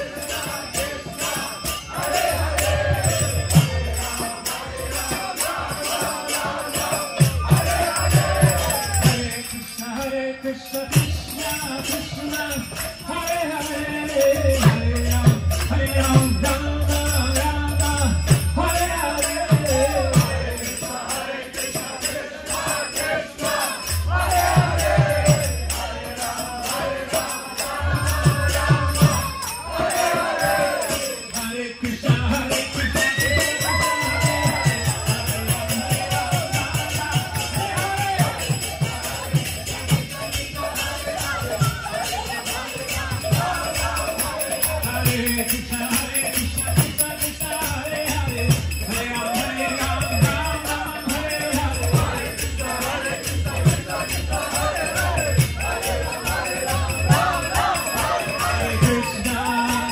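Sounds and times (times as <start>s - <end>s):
group chanting: 0.0s - 9.6s, 18.7s - 59.9s
hand cymbals ringing: 0.0s - 59.9s.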